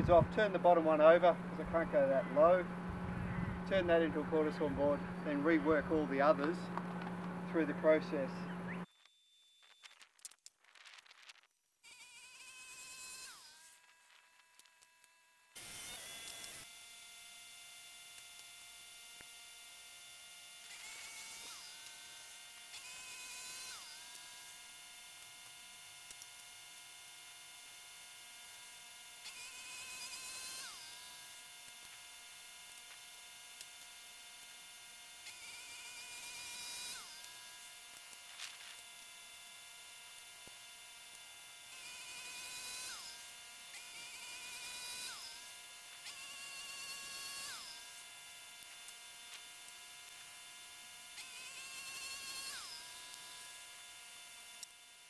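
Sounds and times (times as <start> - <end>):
bandsaw mill buzzing hum: 0.0 - 10.1, 11.7 - 55.0.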